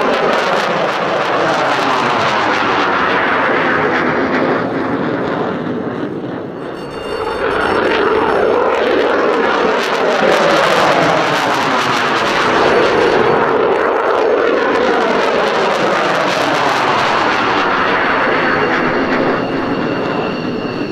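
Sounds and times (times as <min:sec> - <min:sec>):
jet engine roaring: 0:00.0 - 0:20.9.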